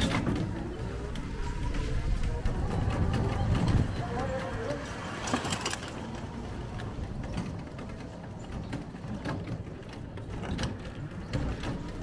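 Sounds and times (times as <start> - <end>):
rickshaw clicking and rattling: 0.0 - 12.0.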